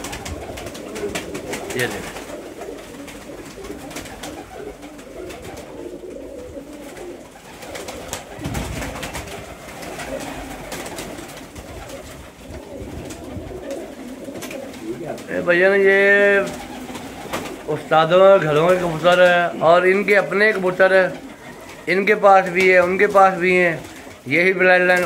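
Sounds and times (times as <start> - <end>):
pigeons cooing: 0.0 - 25.0
wings flapping: 0.0 - 25.0.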